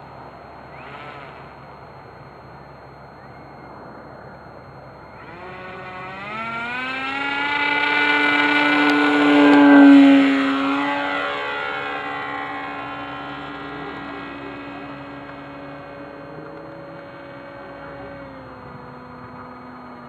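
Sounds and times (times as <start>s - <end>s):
model airplane motor whine: 0.0s - 20.0s.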